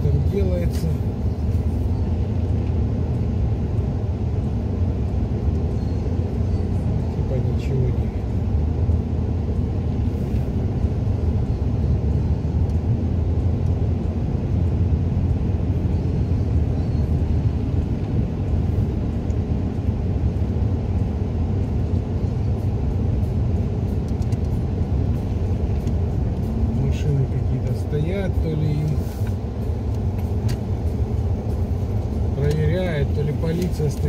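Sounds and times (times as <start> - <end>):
car driving on snowy road: 0.0 - 34.0.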